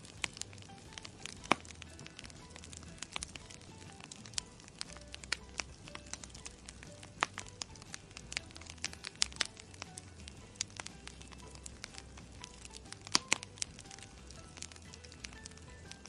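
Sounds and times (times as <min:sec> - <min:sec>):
faint background music: 0:00.0 - 0:16.0
sharp crackling clicks: 0:00.0 - 0:16.0.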